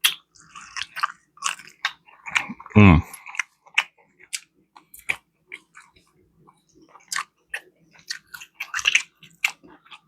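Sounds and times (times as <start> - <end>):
person chewing and lip smacking: 0.0 - 10.0.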